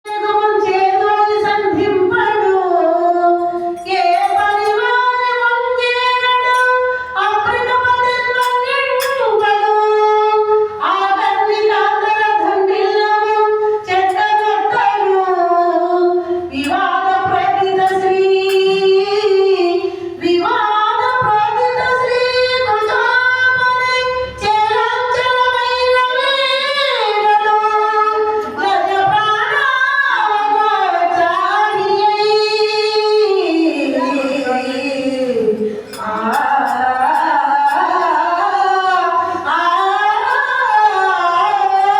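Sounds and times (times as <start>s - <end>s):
woman singing devotional song: 0.0s - 41.9s.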